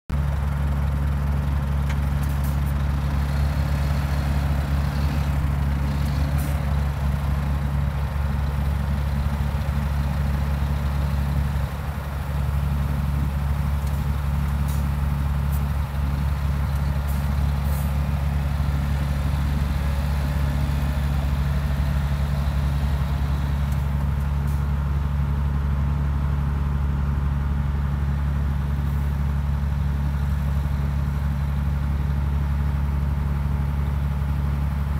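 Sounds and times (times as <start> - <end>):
diesel truck engine running: 0.1 - 34.9.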